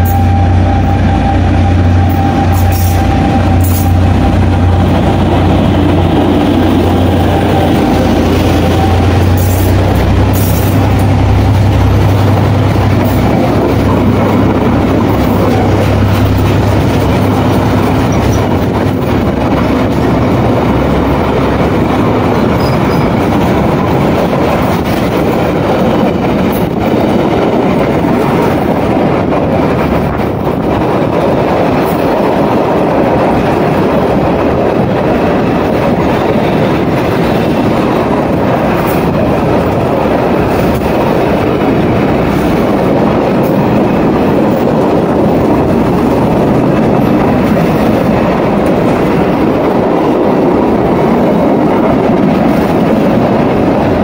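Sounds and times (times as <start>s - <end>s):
steel wheels running on rails: 0.0s - 54.0s.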